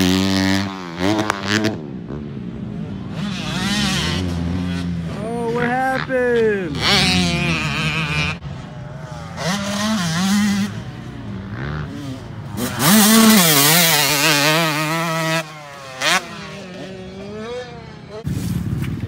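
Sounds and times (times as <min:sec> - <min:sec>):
dirt bike engines revving: 0:00.0 - 0:18.3.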